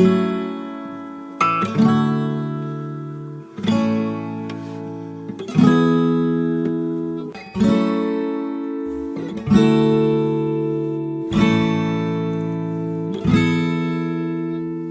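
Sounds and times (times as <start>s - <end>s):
acoustic guitar strummed chords: 0.0s - 14.9s.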